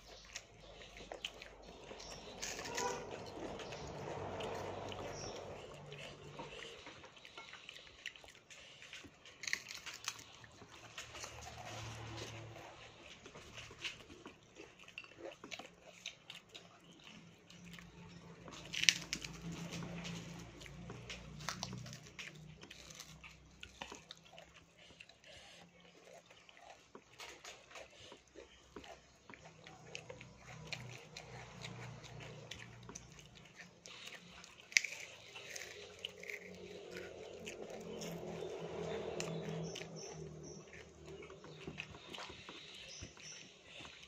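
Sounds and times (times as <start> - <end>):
chewing and crunching: 0.0 - 44.0.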